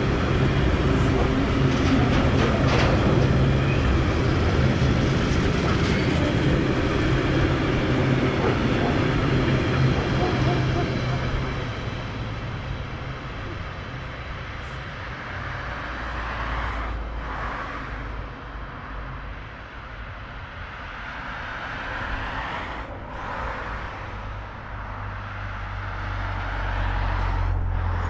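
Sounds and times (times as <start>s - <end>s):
freight train rumbling: 0.0s - 25.1s
cars passing on road: 0.0s - 28.0s.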